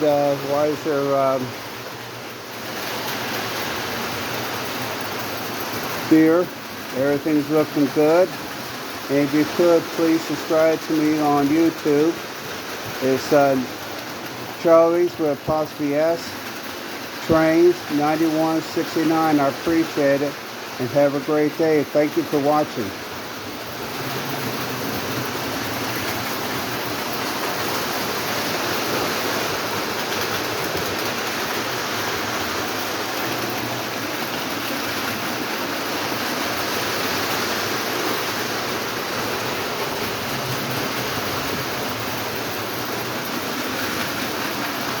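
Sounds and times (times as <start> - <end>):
model trains whirring and rumbling: 0.0 - 45.0.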